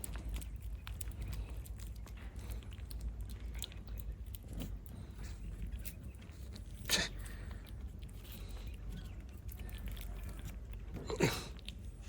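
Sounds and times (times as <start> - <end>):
cat chewing food: 0.0 - 12.0.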